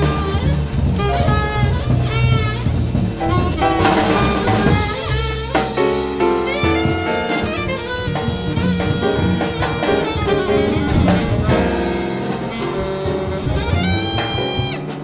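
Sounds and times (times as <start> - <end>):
drum kit: 0.0 - 15.0
horns: 0.0 - 15.0.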